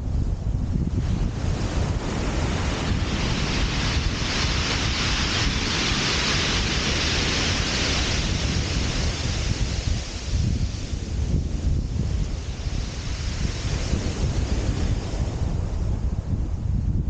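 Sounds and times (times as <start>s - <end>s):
wind buffeting microphone: 0.0s - 17.0s
surf washing on shingle: 1.0s - 15.7s.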